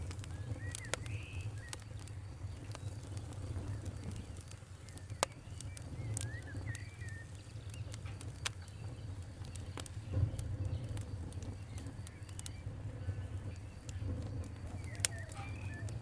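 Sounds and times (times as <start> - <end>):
fire crackling: 0.0 - 16.0
low rumble of fire: 0.0 - 16.0.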